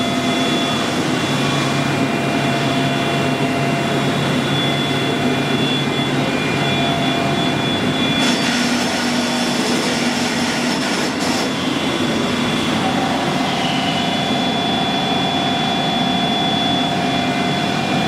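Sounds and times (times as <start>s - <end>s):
high whine: 0.0s - 18.0s
machine whining tones: 0.0s - 18.0s
milling machine humming: 0.0s - 18.0s.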